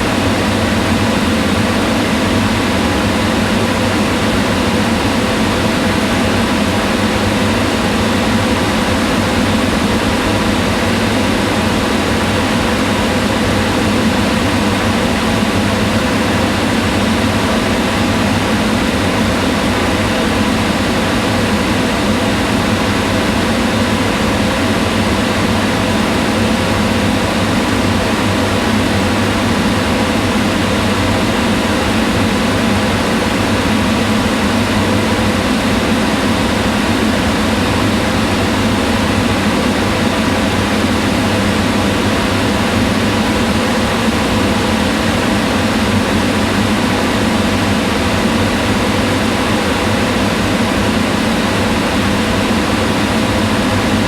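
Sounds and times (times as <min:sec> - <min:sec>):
range hood fan running: 0:00.0 - 0:54.0.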